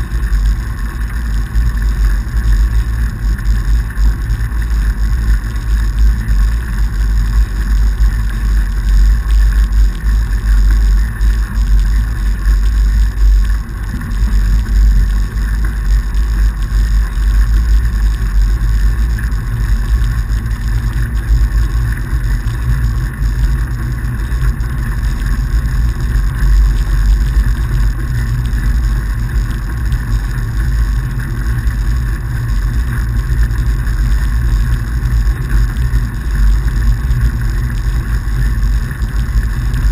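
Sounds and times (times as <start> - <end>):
bike tyres rolling on snow: 0.0 - 39.9.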